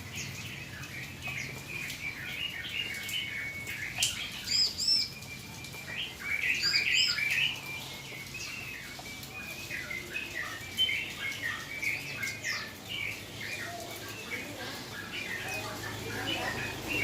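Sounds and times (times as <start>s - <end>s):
bulbul chirping and calling: 0.2s - 17.0s.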